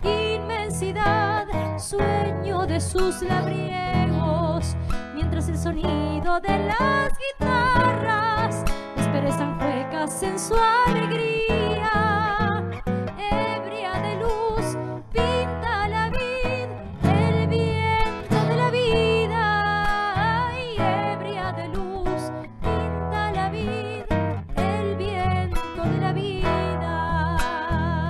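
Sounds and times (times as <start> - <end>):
classical guitar plucked and strummed: 0.0 - 28.0
woman singing: 0.0 - 28.0.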